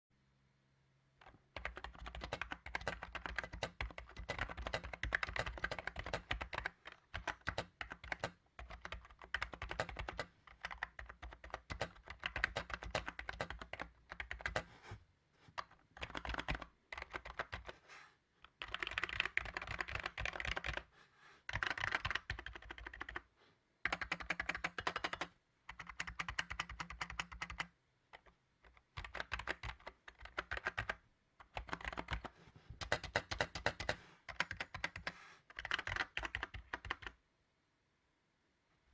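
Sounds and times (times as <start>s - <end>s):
keyboard typing: 1.2s - 14.7s, 15.5s - 17.8s, 18.4s - 20.9s, 21.5s - 23.2s, 23.8s - 37.2s.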